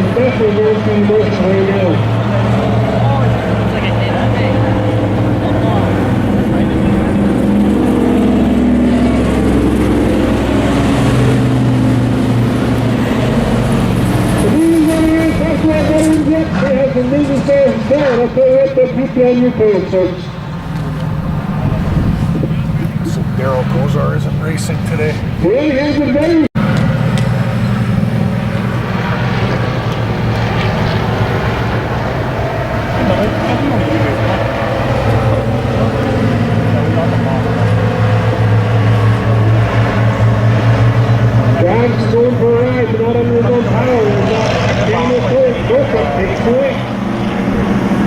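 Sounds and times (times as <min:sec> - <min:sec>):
low engine drone: 0:00.0 - 0:48.0
model race truck engines: 0:00.0 - 0:48.0.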